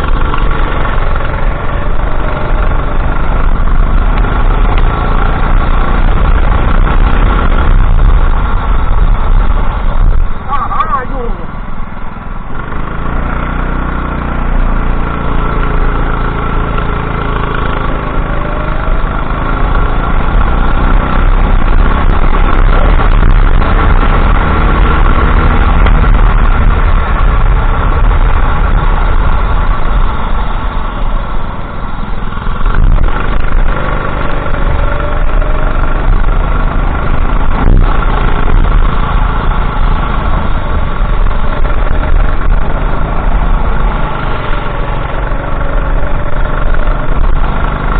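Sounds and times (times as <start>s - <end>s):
go-kart engine racing: 0.0s - 47.9s
wind and track noise: 0.0s - 47.9s.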